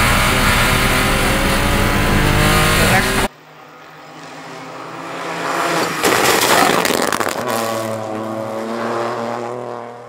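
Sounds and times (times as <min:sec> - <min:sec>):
rally car passing at speed: 0:00.0 - 0:10.0.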